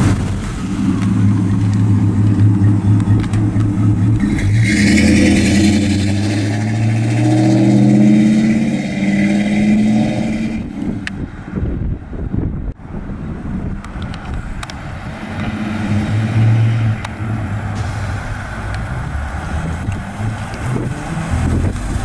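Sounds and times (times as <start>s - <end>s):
car engine accelerating: 0.0s - 11.3s, 14.6s - 22.0s.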